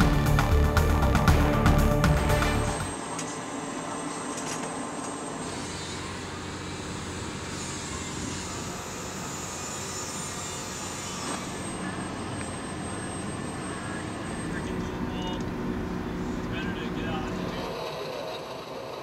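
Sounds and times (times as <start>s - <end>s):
distant aircraft engines running: 0.0s - 19.0s
faint high whine: 2.6s - 18.9s.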